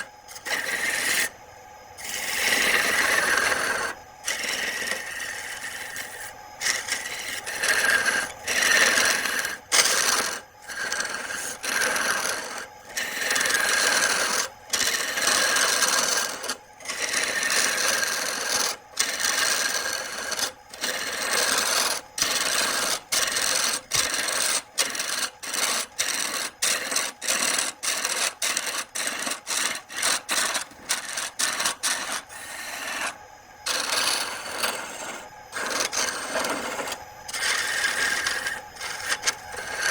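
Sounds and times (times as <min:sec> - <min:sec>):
turning tool scraping wood on lathe: 0:00.0 - 0:01.4, 0:02.0 - 0:39.9.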